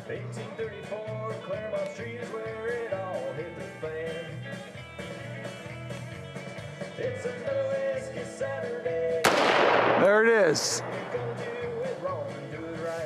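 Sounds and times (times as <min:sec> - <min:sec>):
guitar-driven song: 0:00.0 - 0:13.0.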